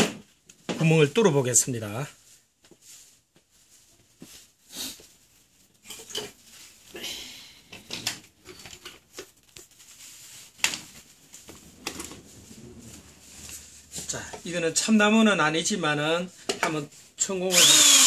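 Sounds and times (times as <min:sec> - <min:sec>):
rustling and shuffling: 0:00.2 - 0:07.0, 0:07.6 - 0:17.3.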